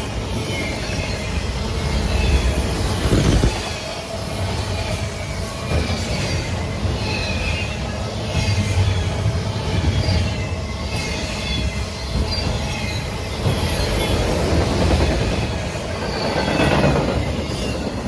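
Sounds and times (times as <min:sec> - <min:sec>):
train rumbling past: 0:00.0 - 0:18.0
wheels squealing on rails: 0:00.0 - 0:18.0.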